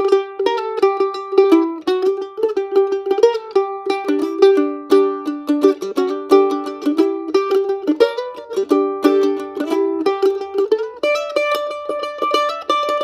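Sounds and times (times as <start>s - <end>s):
mandolin bluegrass melody: 0.0s - 13.0s.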